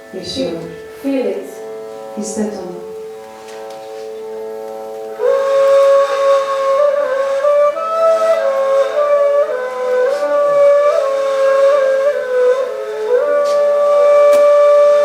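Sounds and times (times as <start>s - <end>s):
steady drone: 0.0s - 14.1s
flute-like wind instrument melody: 0.0s - 15.0s.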